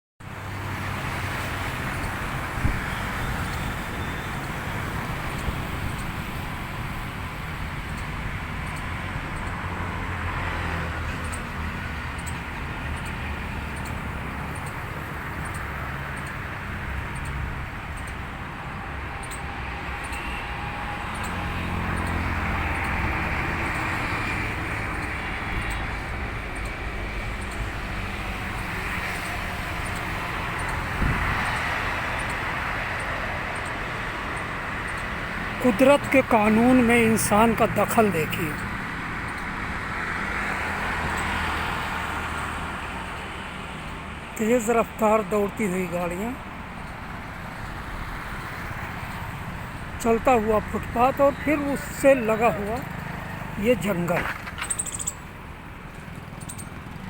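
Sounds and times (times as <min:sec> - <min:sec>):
road traffic rumbling past: 0:00.2 - 0:57.0.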